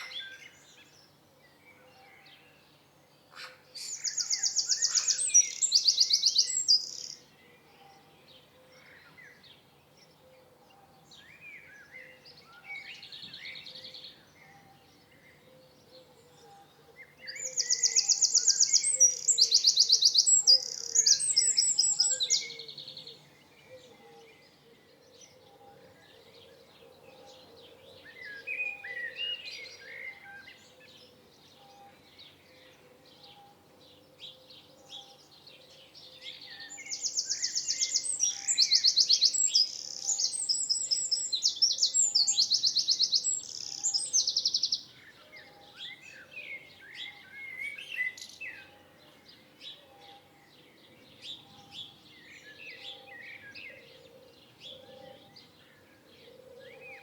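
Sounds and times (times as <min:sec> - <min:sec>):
songbird trilling song: 0:00.0 - 0:57.0.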